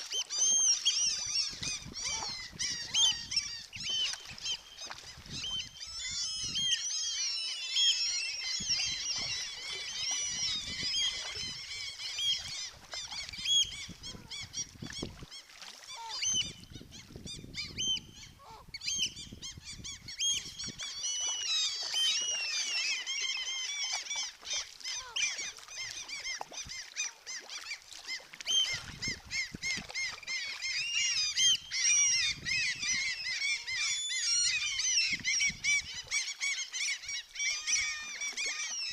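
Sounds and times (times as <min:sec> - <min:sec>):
seabirds calling: 0:00.0 - 0:38.9.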